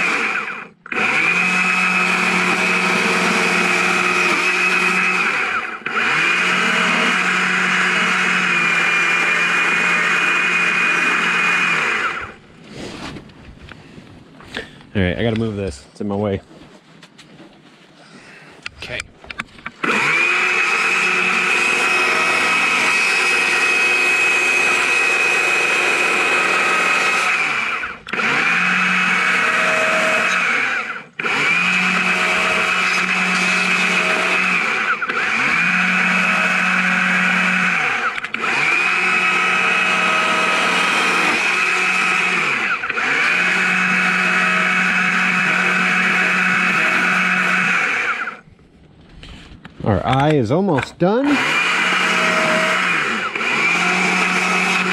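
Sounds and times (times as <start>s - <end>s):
chainsaw carving into log: 0.0s - 12.4s, 19.7s - 48.5s, 51.0s - 54.9s.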